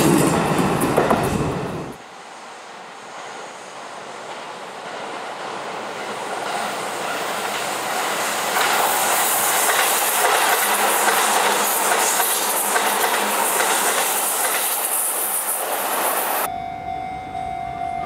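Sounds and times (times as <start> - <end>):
wheels clacking over rail joints: 0.0 - 2.0, 3.0 - 16.5
electric train passing: 0.0 - 18.0.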